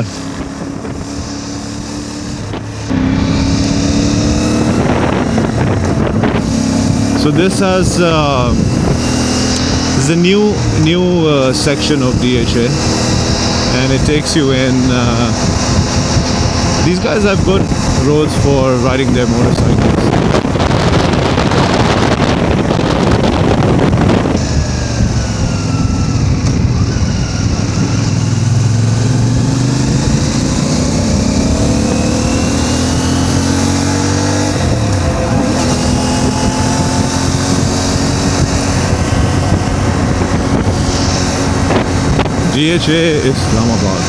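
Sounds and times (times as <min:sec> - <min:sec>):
motorcycle engine accelerating: 0:00.0 - 0:44.0
wind noise on microphone: 0:00.0 - 0:44.0.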